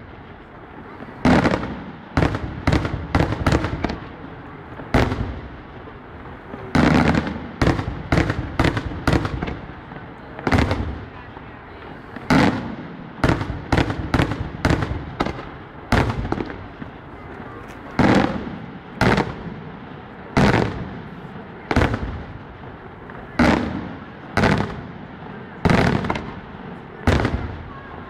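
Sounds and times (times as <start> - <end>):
fireworks exploding: 0.0 - 28.0.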